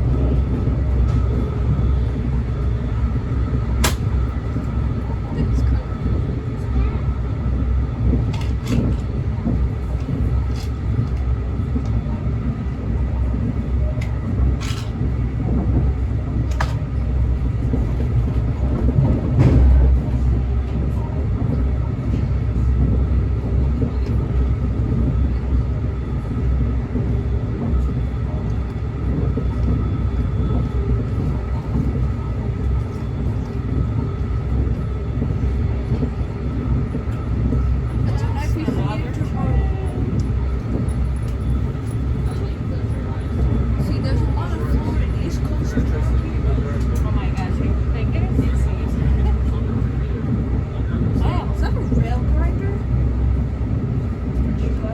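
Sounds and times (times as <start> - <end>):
train rumbling on rails: 0.0 - 54.9.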